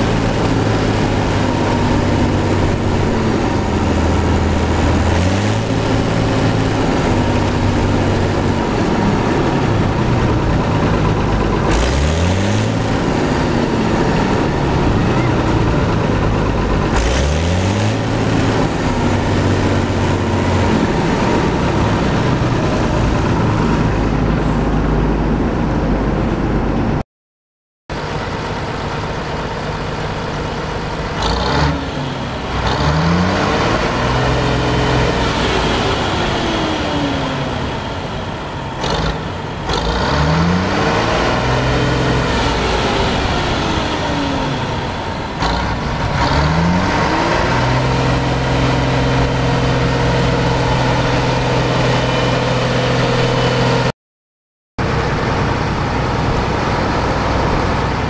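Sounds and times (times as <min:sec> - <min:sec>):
diesel engine revving: 0:00.0 - 0:27.0, 0:27.9 - 0:54.0, 0:54.8 - 0:58.0.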